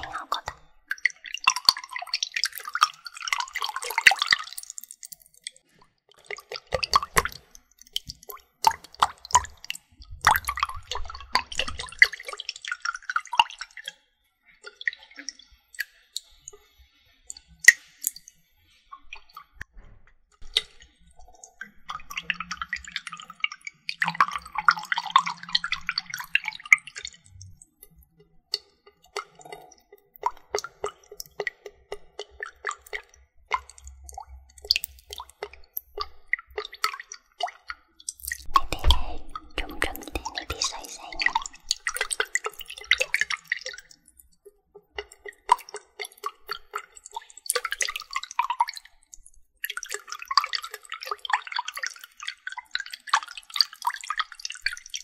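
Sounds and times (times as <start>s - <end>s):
water dripping and splashing: 0.0s - 19.8s, 20.4s - 55.0s.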